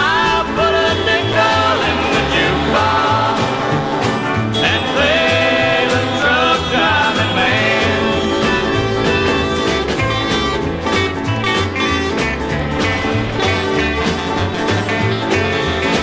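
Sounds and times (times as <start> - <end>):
instrumental country music: 0.0 - 16.0.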